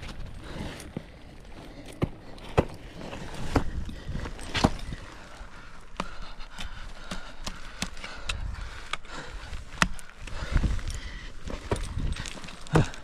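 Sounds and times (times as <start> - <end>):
ice axes striking ice: 1.7 - 10.5, 11.3 - 13.0.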